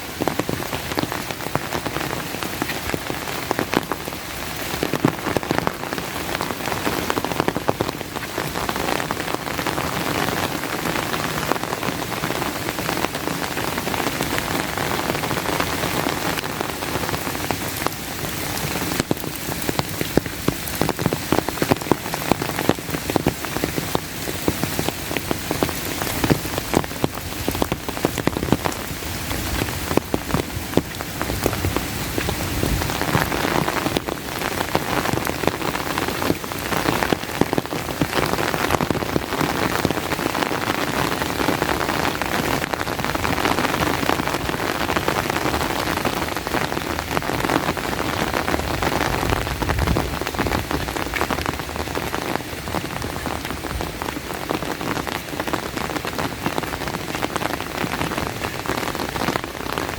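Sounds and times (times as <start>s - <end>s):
raindrops hitting an umbrella: 0.0s - 59.9s
steady rain falling: 0.0s - 59.9s.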